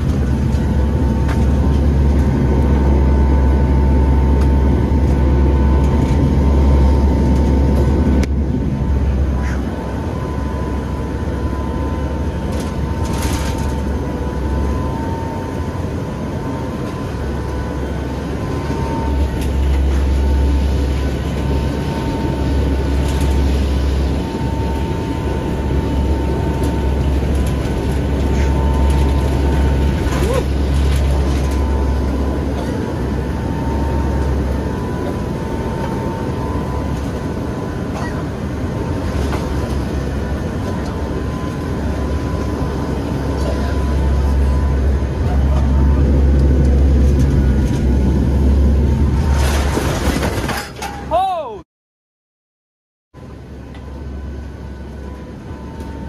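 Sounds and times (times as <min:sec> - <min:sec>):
steady whine: 0:00.0 - 0:51.5, 0:53.2 - 0:56.0
aircraft cabin drone: 0:00.0 - 0:51.6, 0:53.2 - 0:56.0.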